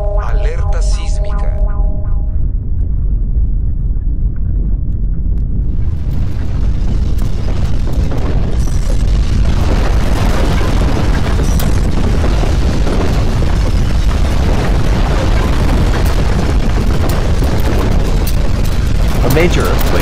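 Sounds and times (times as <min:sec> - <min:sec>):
deep earthquake rumble: 0:00.0 - 0:20.0.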